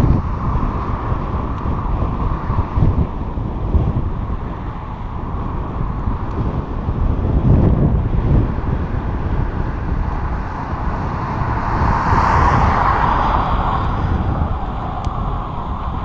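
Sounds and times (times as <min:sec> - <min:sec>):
vehicle passing: 0:00.0 - 0:16.0
wind buffeting microphone: 0:00.0 - 0:16.0.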